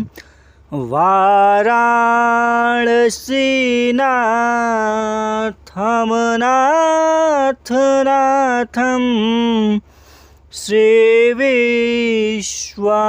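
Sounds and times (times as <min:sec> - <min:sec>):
man singing unaccompanied: 0:00.0 - 0:09.9, 0:10.5 - 0:13.0.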